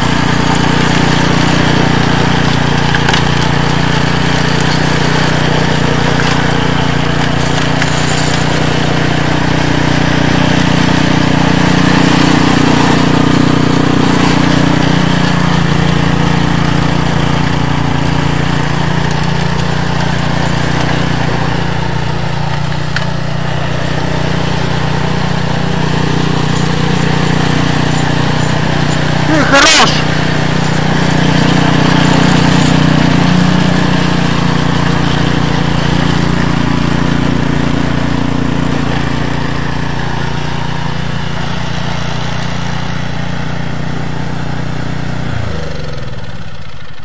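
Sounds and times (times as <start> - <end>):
snowblower engine running: 0.0 - 47.0.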